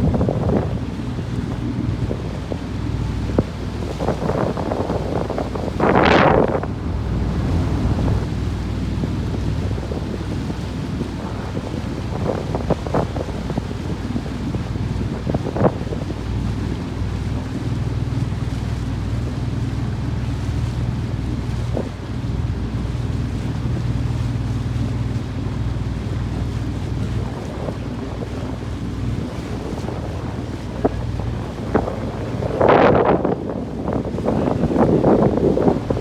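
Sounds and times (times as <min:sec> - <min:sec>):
boat engine running: 0:00.0 - 0:36.0
water rushing past hull: 0:00.0 - 0:36.0
wind buffeting microphone: 0:00.0 - 0:36.0.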